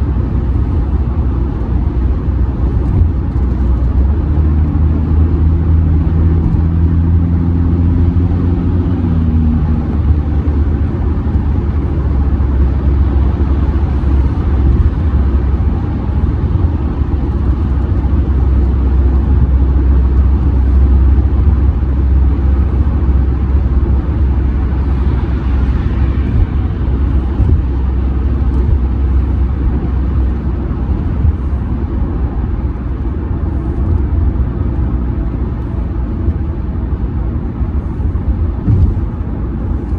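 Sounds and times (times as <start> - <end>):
engine drone: 0.0 - 39.9
road and tyre rumble: 0.0 - 39.9.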